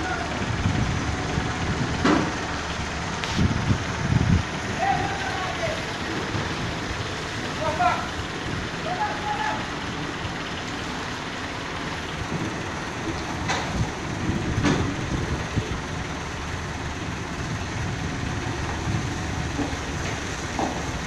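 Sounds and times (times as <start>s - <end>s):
heavy vehicle rumbling: 0.0s - 21.0s.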